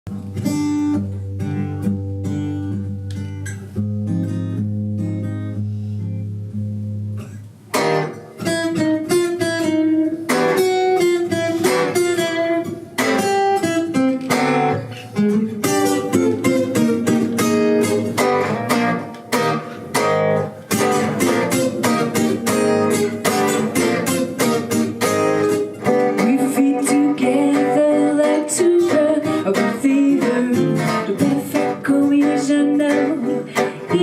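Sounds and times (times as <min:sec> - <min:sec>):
acoustic guitar music: 0:00.1 - 0:34.0.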